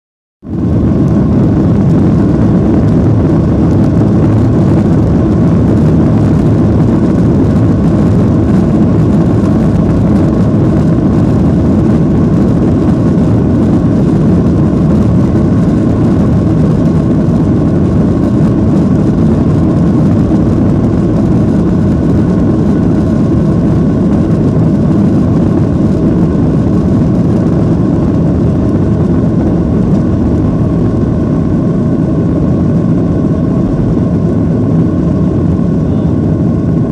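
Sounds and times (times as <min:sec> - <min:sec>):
faint engine whine: 0:00.4 - 0:36.9
jet engines roaring: 0:00.5 - 0:36.9.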